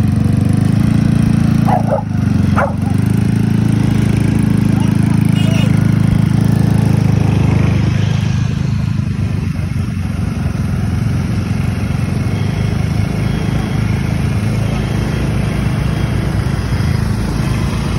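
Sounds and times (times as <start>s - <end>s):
road noise: 0.0s - 17.9s
scooter engines droning: 0.0s - 17.9s.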